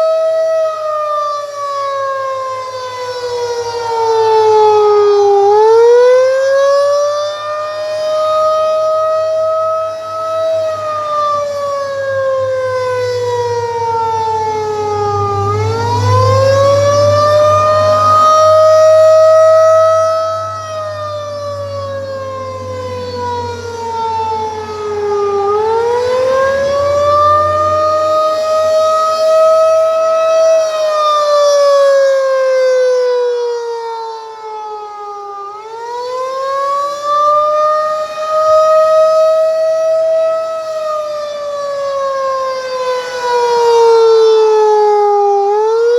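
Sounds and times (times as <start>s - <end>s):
warning siren rising and falling: 0.0s - 45.9s.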